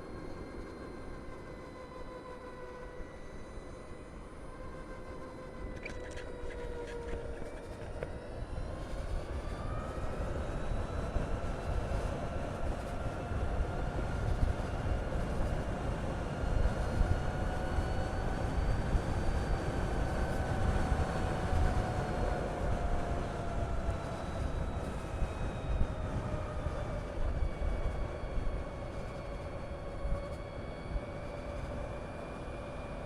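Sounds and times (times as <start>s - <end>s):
electric motorcycle motor whine: 0.0s - 33.0s
wind rumble on microphone: 4.4s - 33.0s.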